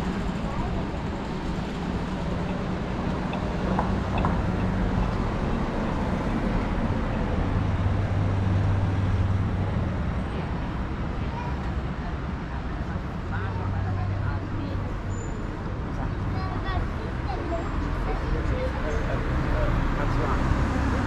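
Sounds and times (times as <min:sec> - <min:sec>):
cars driving along street: 0:00.0 - 0:21.0
vehicle engine hum: 0:00.0 - 0:21.0.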